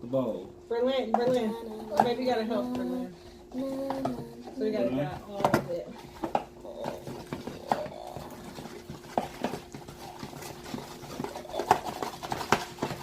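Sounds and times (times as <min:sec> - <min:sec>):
faint steady hum: 0:00.0 - 0:13.0
utensils knocking and scraping bowls: 0:00.0 - 0:13.0.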